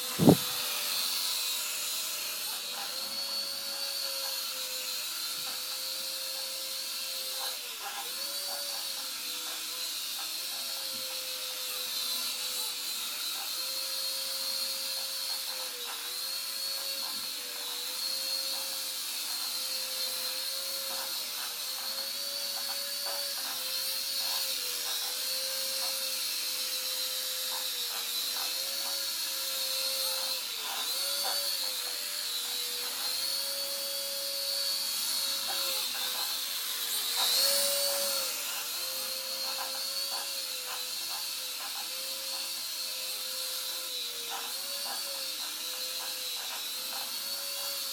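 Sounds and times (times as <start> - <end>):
toy helicopter rotors whirring: 0.0 - 47.9.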